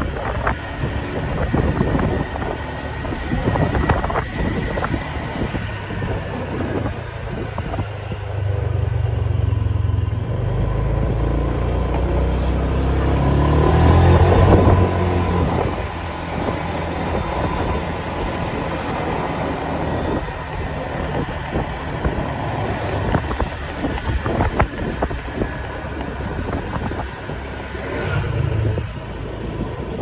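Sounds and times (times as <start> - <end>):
vehicle engine passing: 0.0 - 30.0.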